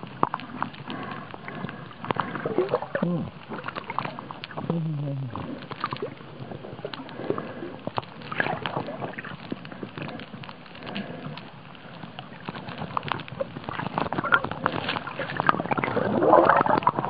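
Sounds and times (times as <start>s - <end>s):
steady underwater hiss: 0.0s - 17.0s
underwater clicks and crackles: 0.0s - 17.0s
water bubbling and sloshing: 0.0s - 17.0s.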